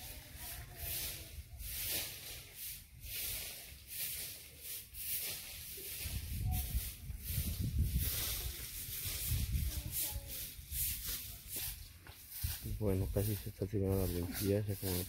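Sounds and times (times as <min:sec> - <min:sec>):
broom sweeping ground: 0:00.0 - 0:15.0.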